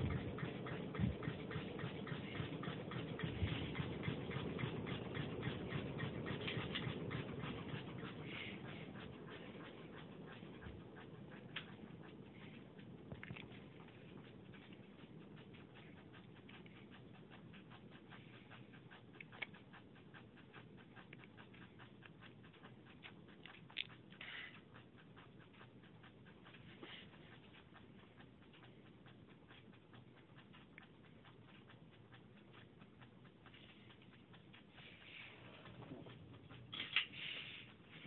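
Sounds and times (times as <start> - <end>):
ceiling fan motor hum: 0.0 - 38.0
rapid light ticking: 0.0 - 38.0.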